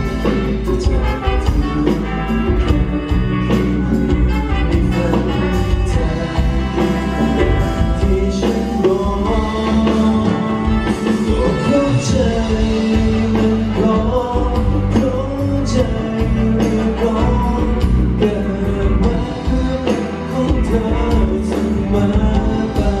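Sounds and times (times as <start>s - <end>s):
live band playing pop ballad: 0.0s - 23.0s.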